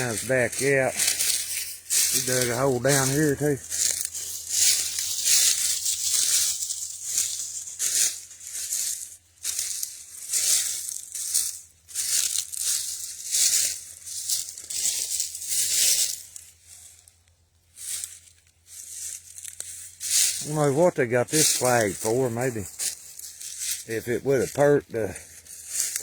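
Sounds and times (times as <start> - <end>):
footsteps crunching through dry leaves: 0.0 - 26.0.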